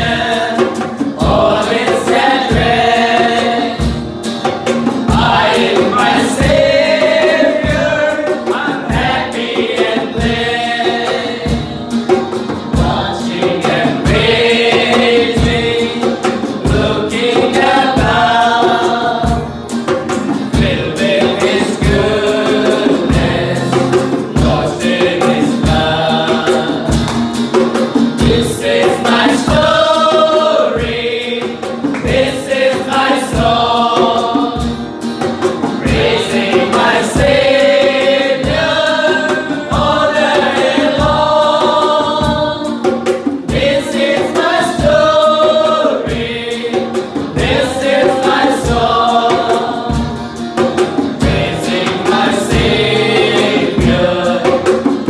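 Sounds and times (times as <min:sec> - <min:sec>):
male voices singing a hymn: 0:00.0 - 0:04.1, 0:04.8 - 0:27.4, 0:28.0 - 0:34.9, 0:35.6 - 0:55.0
acoustic guitar: 0:00.0 - 0:55.0
hand drums beating: 0:00.0 - 0:55.0.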